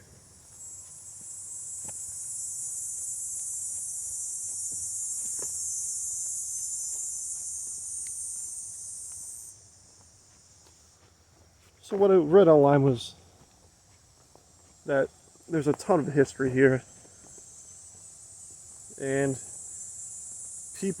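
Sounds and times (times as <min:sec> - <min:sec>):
insect buzzing: 0:00.0 - 0:11.8, 0:12.7 - 0:21.0.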